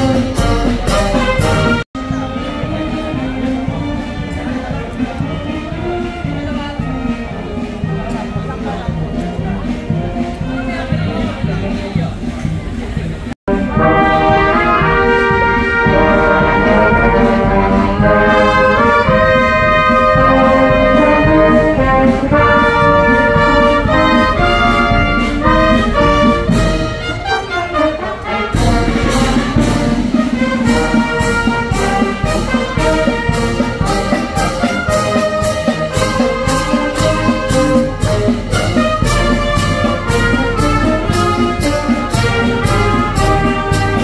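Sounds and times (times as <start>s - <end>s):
brass band playing chords: 0.0s - 44.0s
steady percussion beat: 0.0s - 44.0s.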